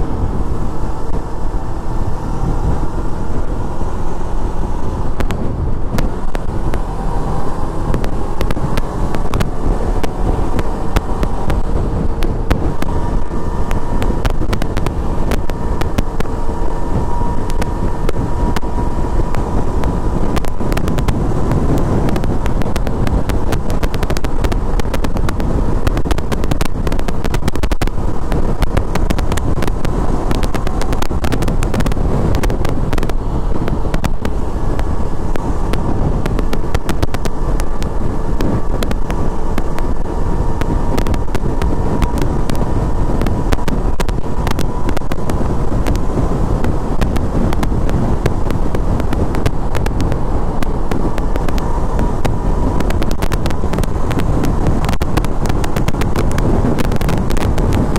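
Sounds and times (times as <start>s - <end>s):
motorcycle engine: 0.0s - 57.9s
wind rush on microphone: 0.0s - 57.9s.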